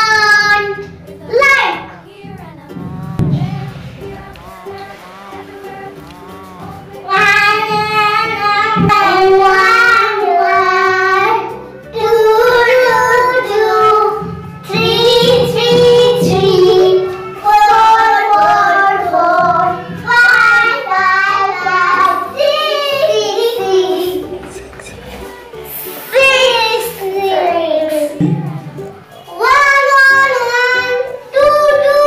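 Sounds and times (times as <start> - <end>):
child singing: 0.0 - 24.6, 25.2 - 32.0
backing music: 0.0 - 32.0.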